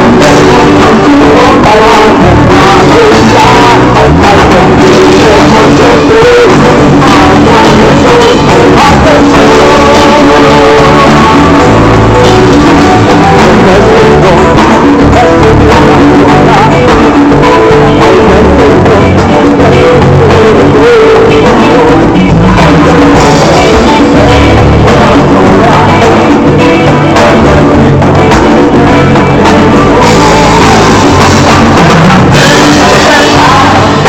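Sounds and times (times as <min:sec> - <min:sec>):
drums: 0:00.0 - 0:34.0
electric guitar: 0:00.0 - 0:34.0
person singing: 0:00.0 - 0:34.0.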